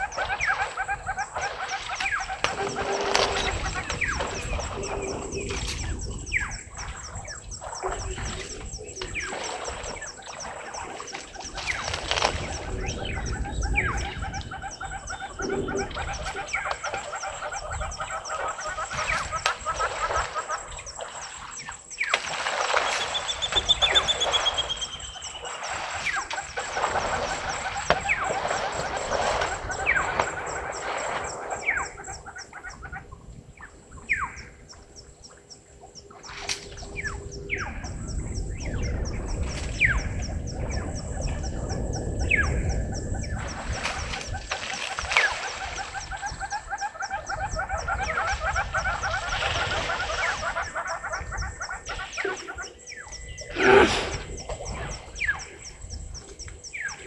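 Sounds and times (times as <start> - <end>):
birds calling and chirping: 0.0 - 57.0.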